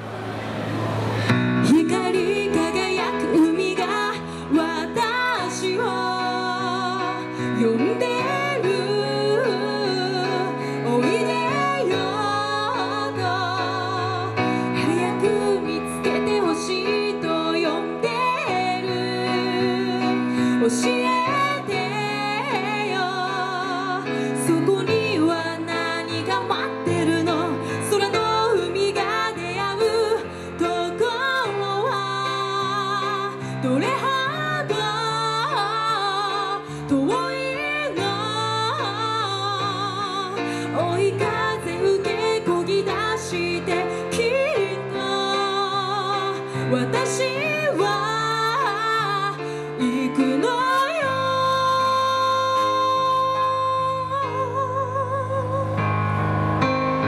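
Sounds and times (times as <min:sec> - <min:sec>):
woman singing with vibrato: 0:00.7 - 0:55.9.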